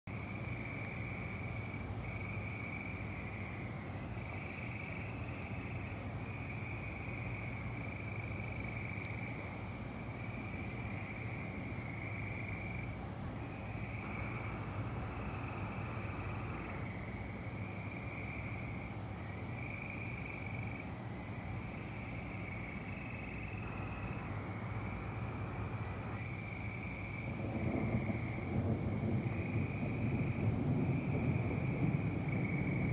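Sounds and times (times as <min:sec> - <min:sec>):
steady low hum: 0:00.1 - 0:32.9
frogs peeping: 0:00.2 - 0:32.9.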